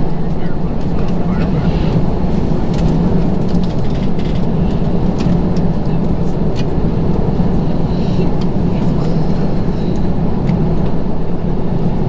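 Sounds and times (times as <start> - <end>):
airplane cabin rumble: 0.0 - 12.0
light clicks and rattles: 0.8 - 10.6.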